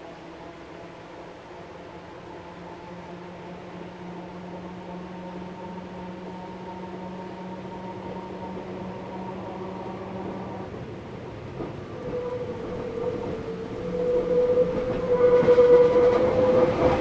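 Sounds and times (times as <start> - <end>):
tram humming: 0.0 - 17.0.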